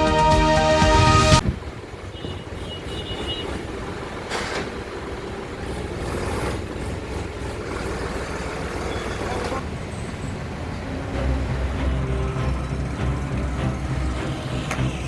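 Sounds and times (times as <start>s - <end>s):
low engine rumble: 1.4s - 15.0s
vehicle passing: 1.4s - 15.0s.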